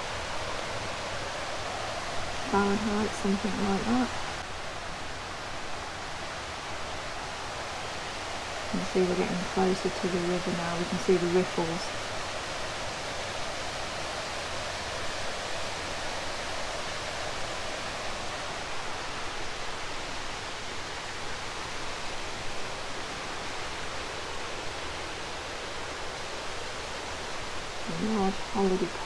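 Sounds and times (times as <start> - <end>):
river rushing over rocks: 0.0 - 29.0.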